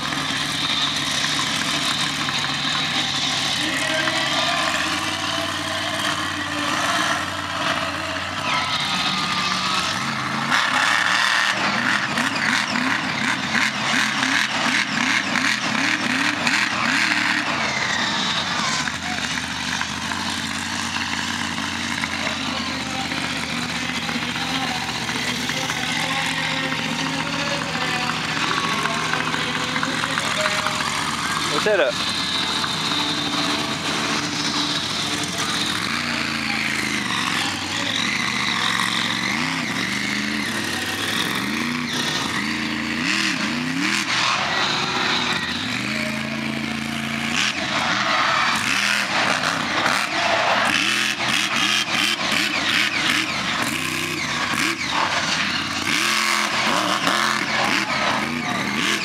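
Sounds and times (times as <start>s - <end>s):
arena crowd din: 0.0s - 59.0s
monster truck engine revving: 0.0s - 59.0s.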